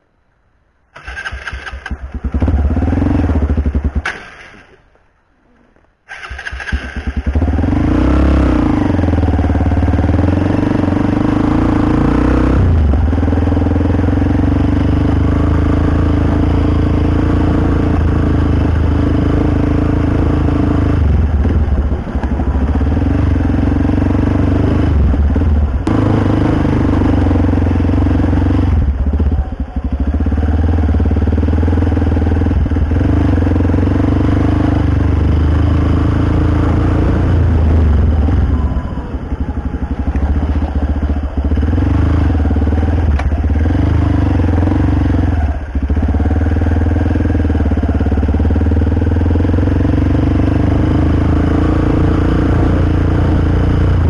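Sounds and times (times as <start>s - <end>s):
small motorcycle engine running: 6.1s - 54.0s.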